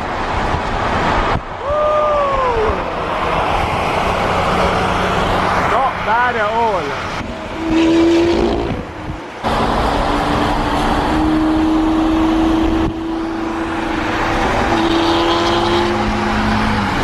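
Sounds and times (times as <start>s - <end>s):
car engines cruising: 0.0s - 17.0s
road noise: 0.0s - 17.0s.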